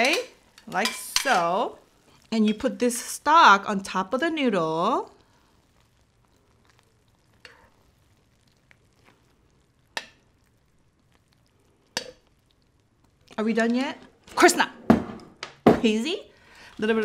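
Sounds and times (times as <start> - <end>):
faint sizzling: 0.0 - 17.0.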